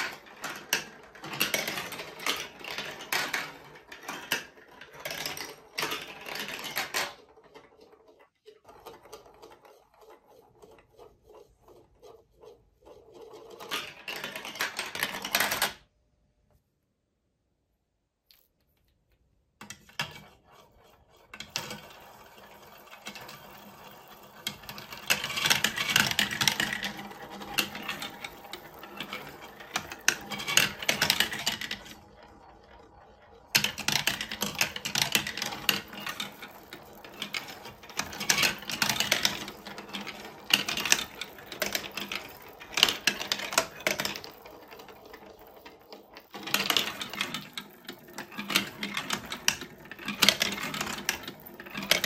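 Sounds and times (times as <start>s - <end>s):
plastic balls rattling down marble run: 0.0s - 15.8s, 19.6s - 52.0s.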